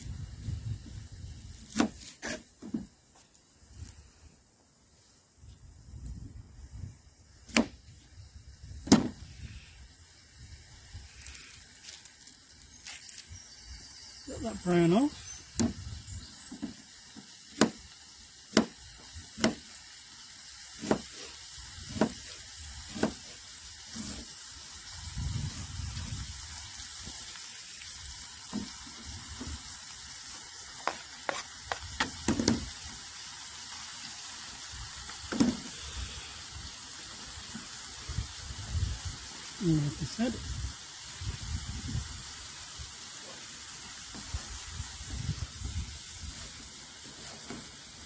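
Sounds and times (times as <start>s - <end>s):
chicken sizzling in a tin: 0.0s - 48.0s.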